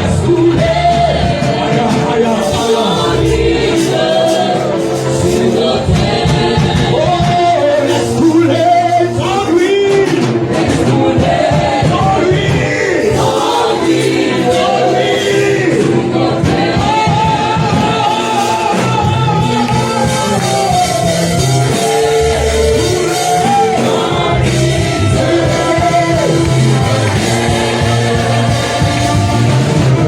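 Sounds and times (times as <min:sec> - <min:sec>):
gospel singers with band: 0:00.0 - 0:30.0.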